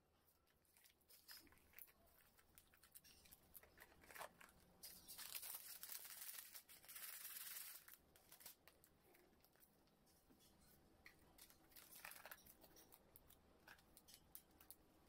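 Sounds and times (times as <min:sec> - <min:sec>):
food packaging crinkling: 0:00.6 - 0:09.6, 0:11.4 - 0:14.8.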